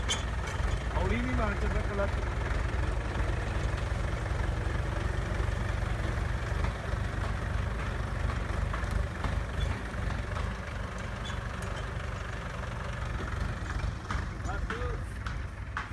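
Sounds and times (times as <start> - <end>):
diesel engine idling low: 0.0 - 15.9.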